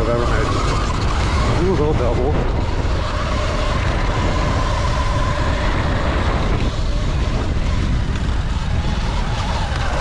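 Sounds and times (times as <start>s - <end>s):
electric motor whine: 0.0s - 10.0s
wind buffeting microphone: 0.0s - 10.0s.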